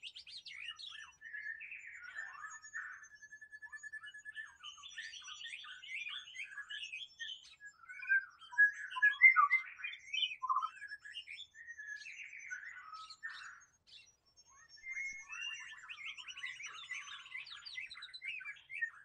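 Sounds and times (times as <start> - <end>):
bird singing whistles and trills: 0.0 - 19.0.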